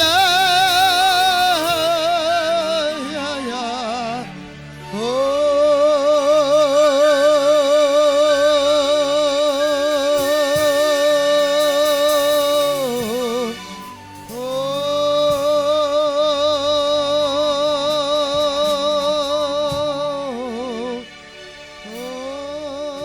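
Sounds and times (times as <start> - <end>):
soft sustained backing: 0.0 - 23.0.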